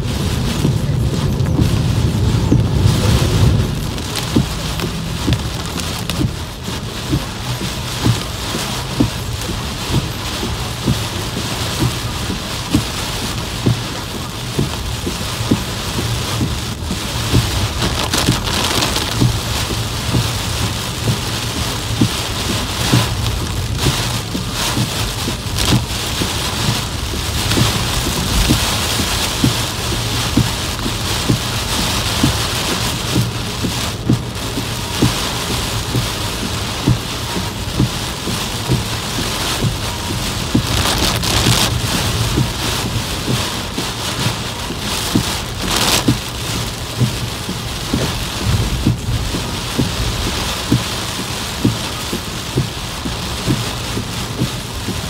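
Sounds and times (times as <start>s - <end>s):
heavy rain on car windshield: 0.0s - 55.0s.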